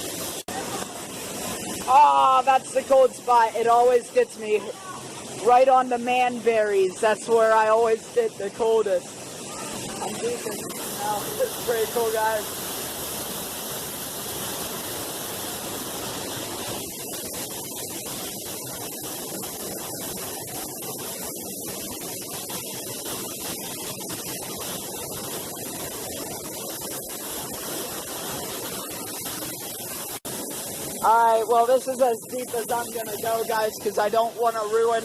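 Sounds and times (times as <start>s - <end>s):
waterfall roaring into pool: 0.0s - 35.0s.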